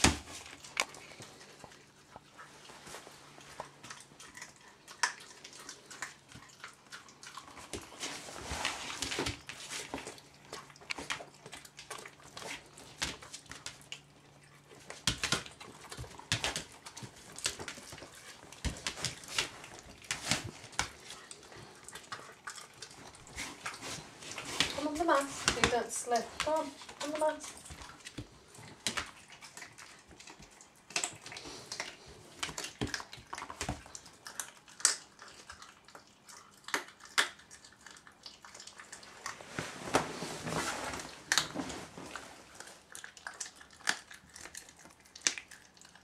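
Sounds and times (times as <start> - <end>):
puppy chewing and crunching: 0.0 - 46.0.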